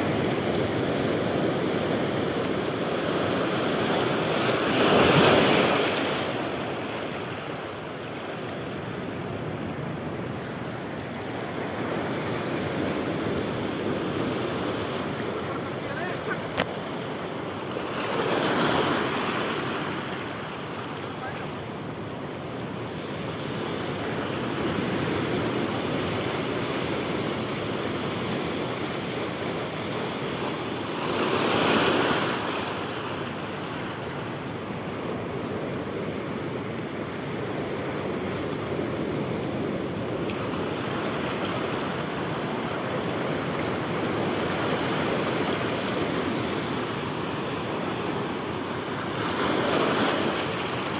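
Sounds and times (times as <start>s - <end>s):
sea surf washing over rocks: 0.0s - 50.9s
waves breaking: 0.0s - 50.9s.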